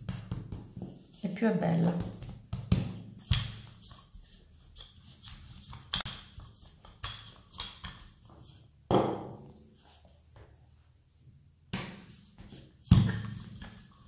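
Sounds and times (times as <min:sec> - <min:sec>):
rolling pin rolling dough: 0:00.0 - 0:10.4, 0:11.9 - 0:14.0.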